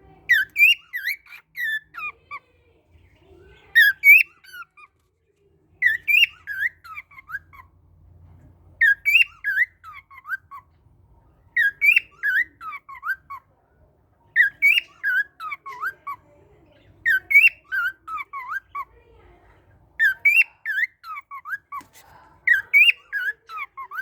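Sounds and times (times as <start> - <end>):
songbird singing: 0.2 - 4.9, 5.8 - 7.8, 8.8 - 13.5, 14.2 - 19.0, 20.0 - 24.0.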